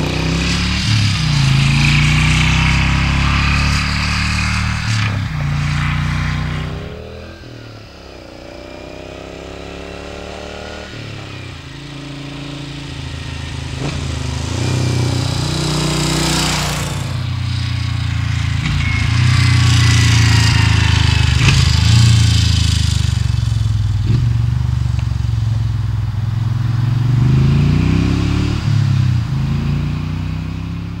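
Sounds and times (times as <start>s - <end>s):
motorcycle engine riding past: 0.0s - 31.0s.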